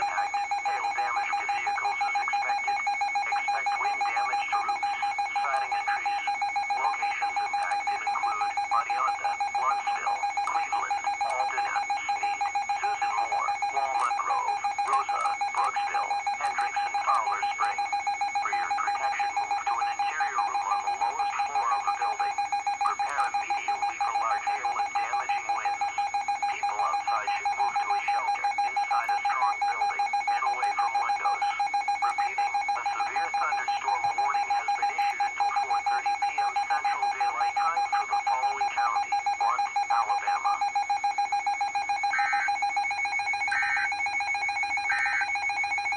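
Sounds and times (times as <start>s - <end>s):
electronic alarm beeping rapidly: 0.0s - 45.9s.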